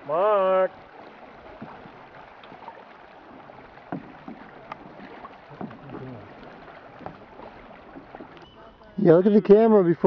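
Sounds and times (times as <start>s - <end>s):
water wash: 0.0s - 9.6s
paddles knocking and splashing: 0.0s - 10.0s.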